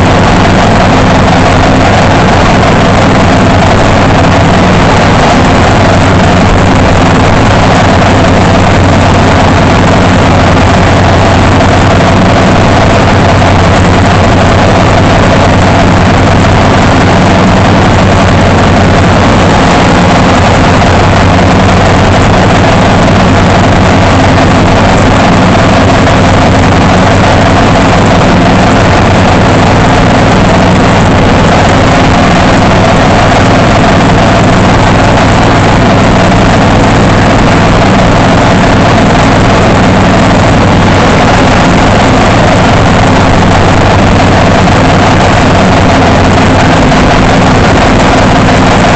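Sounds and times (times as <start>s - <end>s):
mower engine running: 0.0s - 48.9s.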